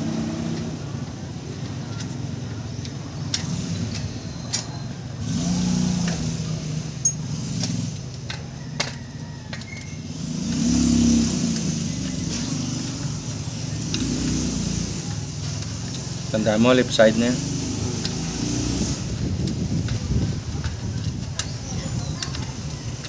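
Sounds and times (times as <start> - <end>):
engine revving: 0.0 - 4.3, 5.0 - 8.3, 10.0 - 23.0.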